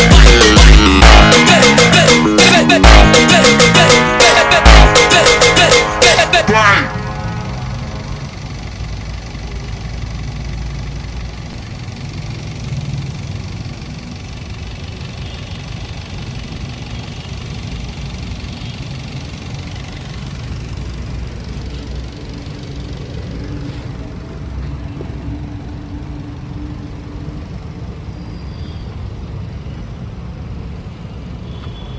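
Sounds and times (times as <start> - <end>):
car engine running: 0.0 - 28.1.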